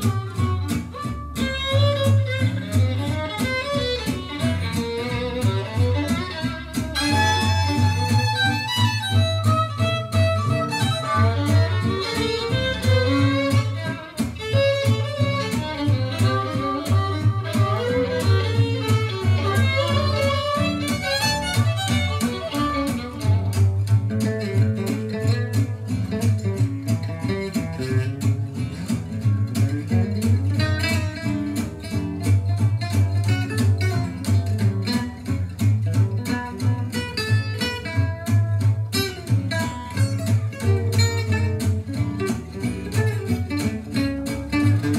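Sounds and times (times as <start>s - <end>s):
music with guitar and violin: 0.0s - 44.9s.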